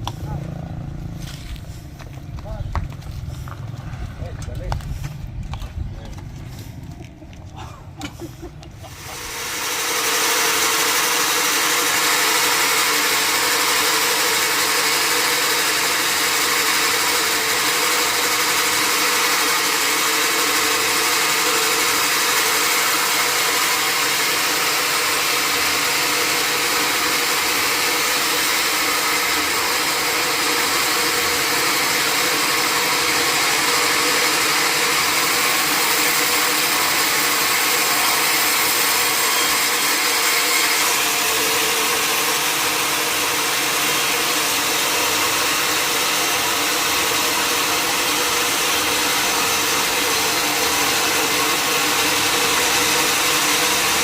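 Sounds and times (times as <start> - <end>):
sawmill saw cutting timber: 0.0 - 5.2, 8.1 - 54.0.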